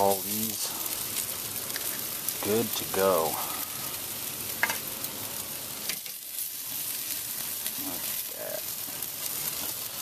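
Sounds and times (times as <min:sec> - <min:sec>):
chicken sizzling on grill: 0:00.0 - 0:10.0.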